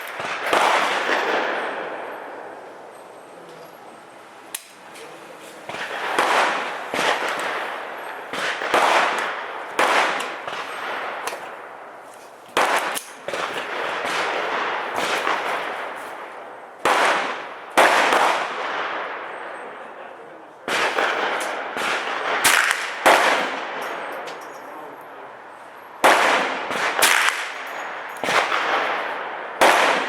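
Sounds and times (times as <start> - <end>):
rifle shots: 0.0 - 2.8, 5.6 - 12.0, 12.6 - 19.9, 20.7 - 30.0.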